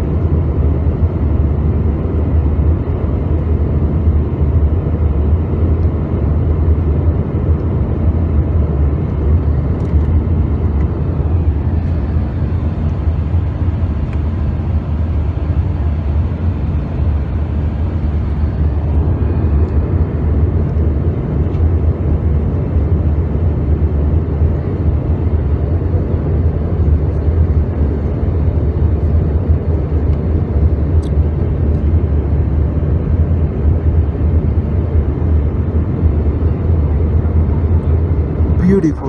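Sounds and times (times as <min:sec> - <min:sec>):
jet engine cabin drone: 0:00.0 - 0:39.0.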